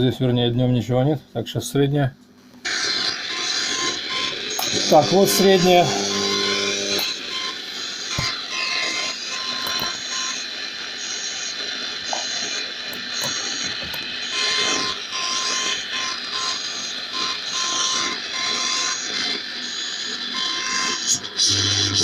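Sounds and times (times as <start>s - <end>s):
radio hiss and interference: 2.7s - 22.0s
radio whistling tones: 2.7s - 22.0s.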